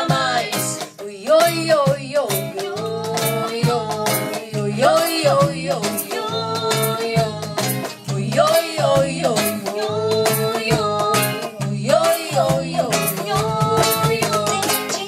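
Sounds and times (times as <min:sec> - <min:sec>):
charango and guitar melody: 0:00.0 - 0:15.0
hand percussion: 0:00.0 - 0:15.0
steady bass: 0:01.5 - 0:14.6.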